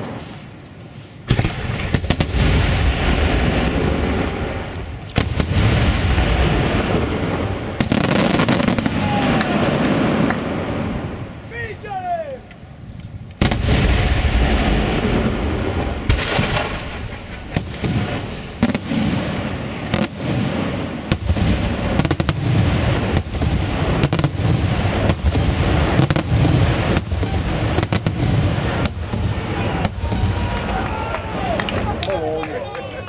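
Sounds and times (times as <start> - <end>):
fireworks bursting with bangs and booms: 0.0 - 33.0.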